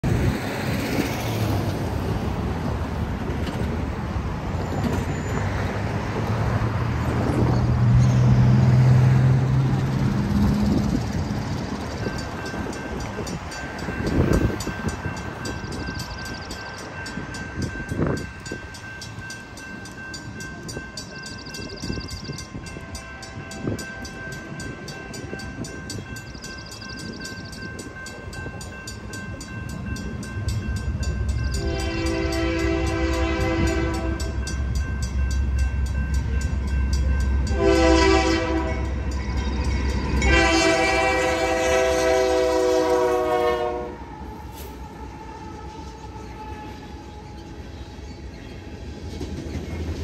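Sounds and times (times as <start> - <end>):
crossing warning bells ringing: 0.0 - 50.0
freight train passing: 0.0 - 50.0.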